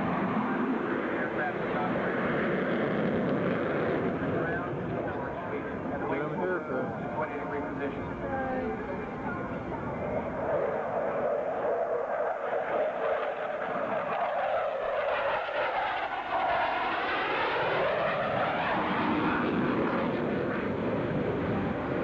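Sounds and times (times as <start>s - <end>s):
jet passing overhead: 0.0s - 22.0s.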